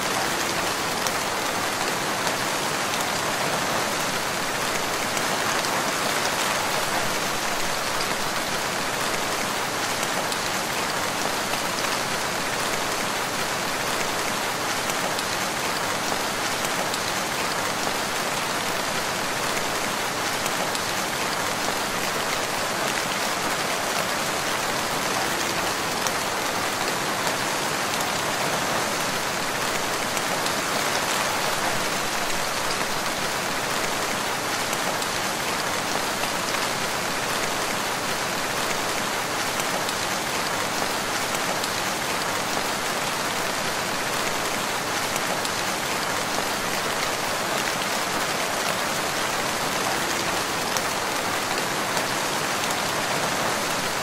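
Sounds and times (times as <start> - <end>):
rain on leaves: 0.0 - 54.0.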